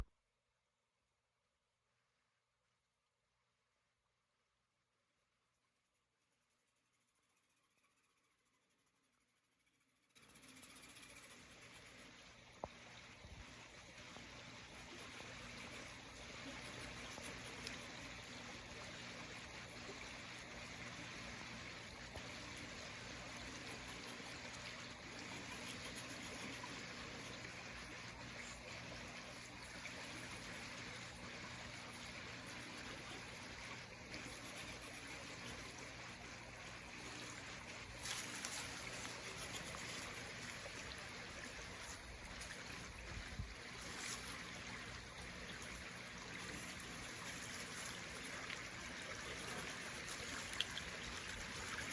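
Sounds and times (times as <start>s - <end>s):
small stream trickling: 10.2s - 51.9s.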